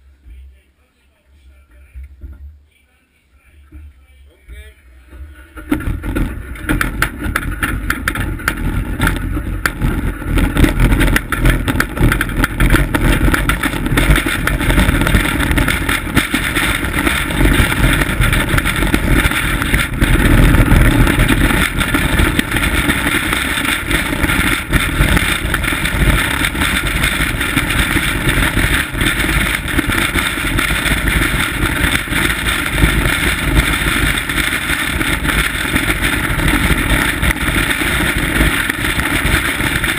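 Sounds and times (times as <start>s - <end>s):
bobsleigh runners scraping over ice: 5.2s - 39.9s.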